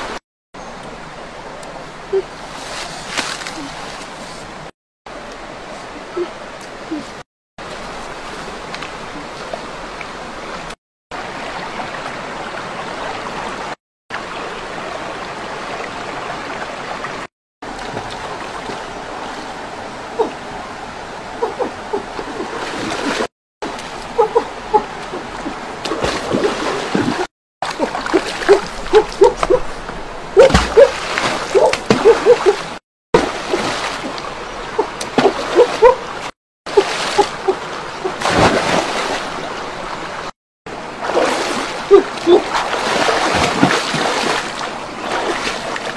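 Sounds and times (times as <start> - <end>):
shallow stream flowing: 0.0 - 45.9
water splashing and sloshing: 0.8 - 45.9.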